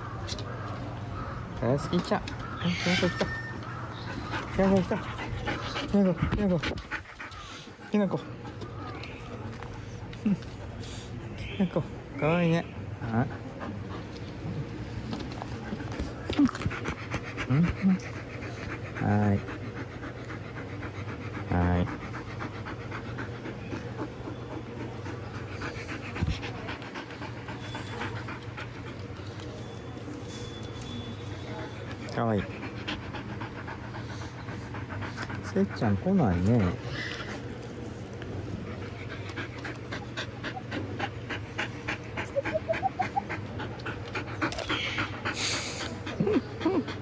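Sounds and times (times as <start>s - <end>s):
dog panting: 1.2s - 11.2s, 13.1s - 29.7s, 30.7s - 47.0s.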